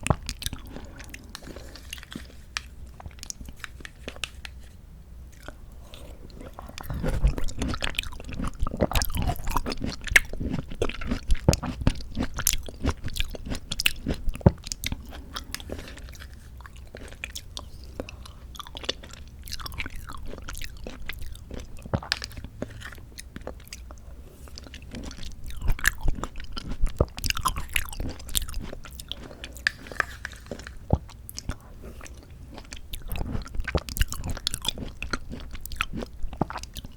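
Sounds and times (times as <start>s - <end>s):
wet chewing sounds: 0.0s - 4.6s, 5.3s - 36.9s.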